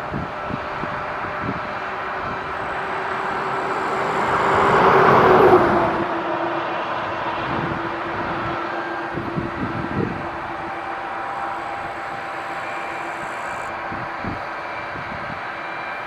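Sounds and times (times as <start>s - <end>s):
combine harvester passing: 0.0s - 16.0s.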